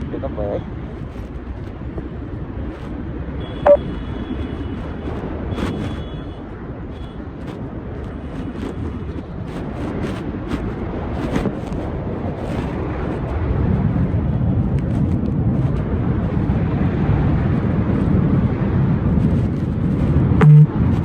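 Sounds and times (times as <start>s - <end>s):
wind rumbling over microphone: 0.0s - 21.0s.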